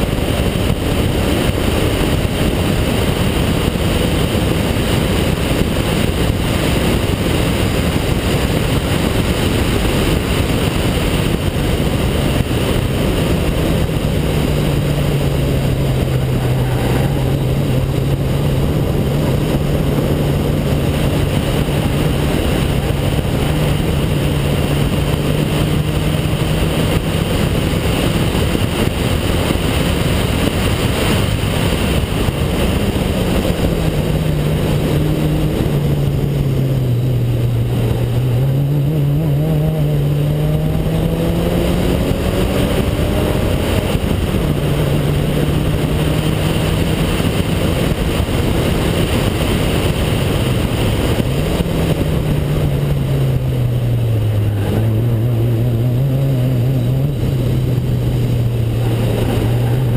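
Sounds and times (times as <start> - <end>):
car engine under load: 0.0 - 59.9
wind noise on microphone: 0.0 - 59.9.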